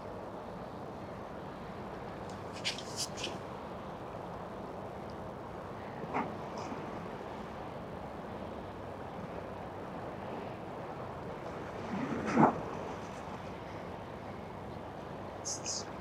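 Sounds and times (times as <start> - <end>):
harbour boat traffic: 0.0 - 16.0
wind: 0.0 - 16.0.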